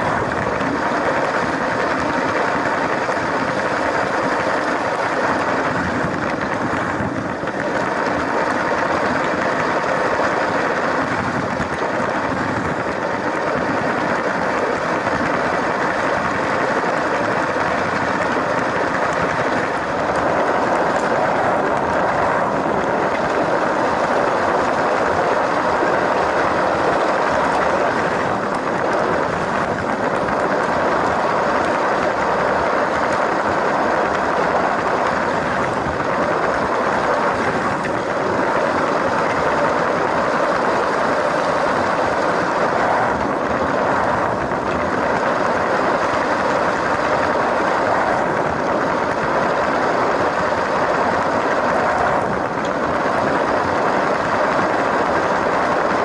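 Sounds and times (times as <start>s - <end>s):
toy train whirring on track: 0.0s - 56.0s.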